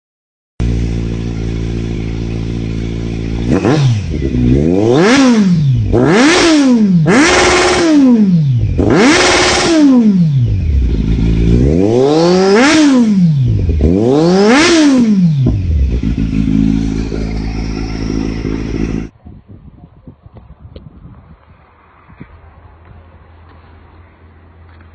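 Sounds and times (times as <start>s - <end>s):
motorcycle engine idling and revving: 0.6s - 19.2s, 20.0s - 24.9s.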